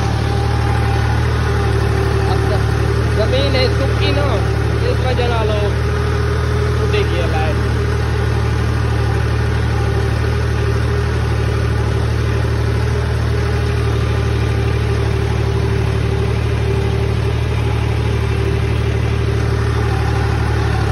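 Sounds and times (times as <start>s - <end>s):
tractor diesel engine droning: 0.0s - 20.9s.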